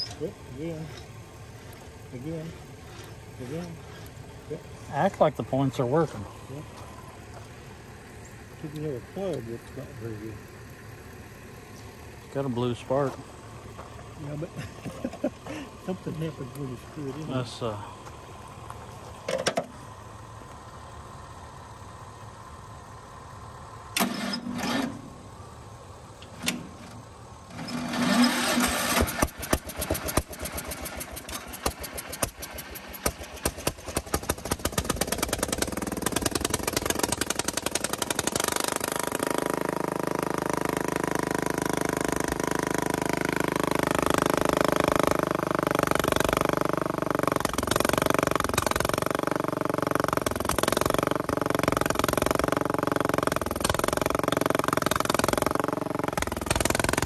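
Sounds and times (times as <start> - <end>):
small engine cranking and running: 0.0 - 20.2, 20.8 - 57.0.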